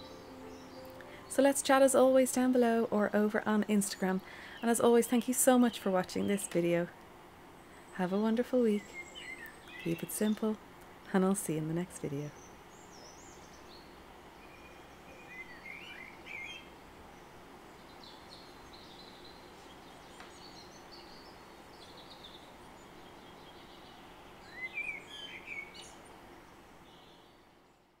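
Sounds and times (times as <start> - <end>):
birds chirping: 0.0 - 27.8
faint steady background hiss: 0.0 - 28.0.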